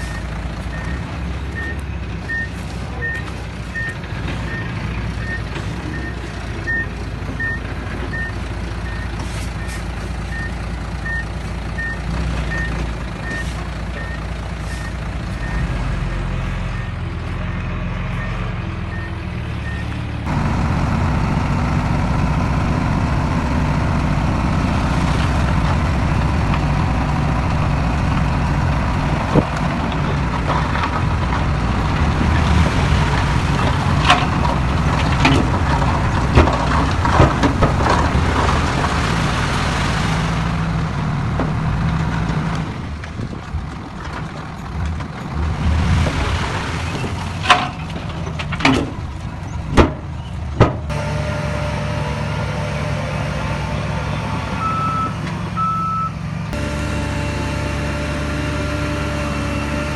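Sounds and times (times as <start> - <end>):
diesel machinery engine running: 0.0 - 59.9.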